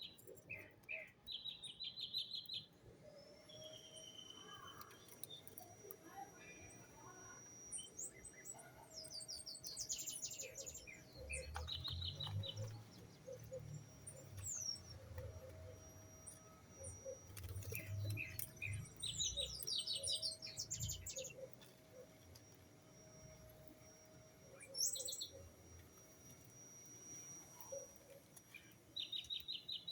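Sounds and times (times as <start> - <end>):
small songbirds chirping: 0.0 - 29.9.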